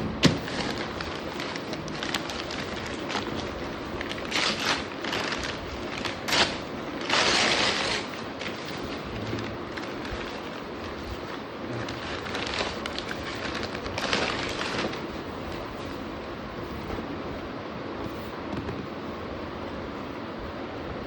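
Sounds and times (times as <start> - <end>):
packaging rustling and crinkling: 0.2 - 17.1.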